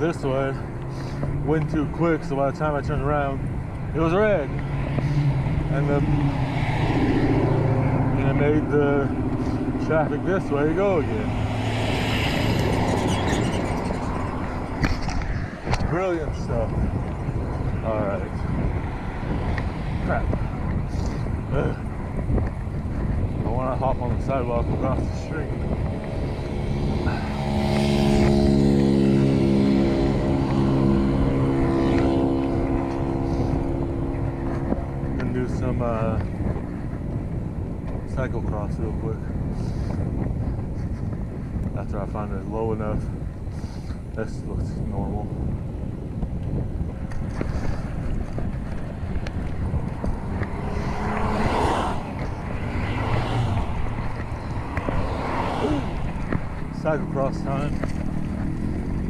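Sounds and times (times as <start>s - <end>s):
vehicle engine passing: 0.0s - 43.9s, 44.6s - 59.0s
wind rumble on microphone: 0.0s - 59.0s.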